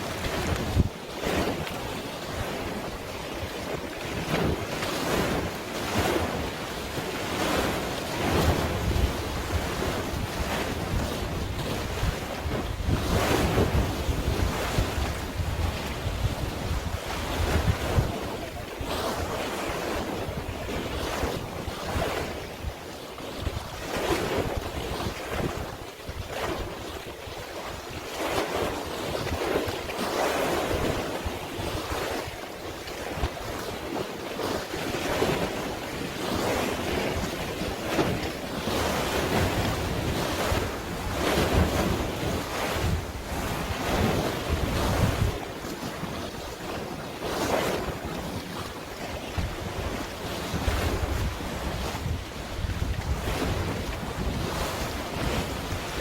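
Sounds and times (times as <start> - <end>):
sea waves washing in: 0.0 - 56.0
wind buffeting microphone: 0.0 - 56.0.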